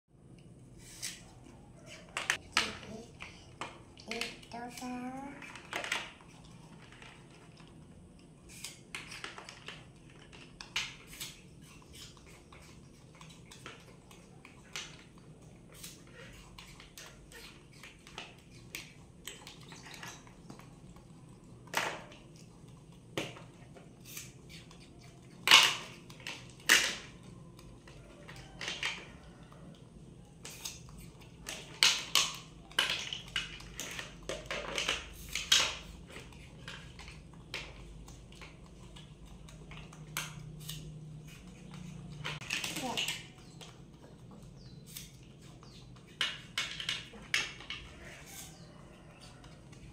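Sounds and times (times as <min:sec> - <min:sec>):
plastic toys clicking and knocking: 0:01.9 - 0:49.9.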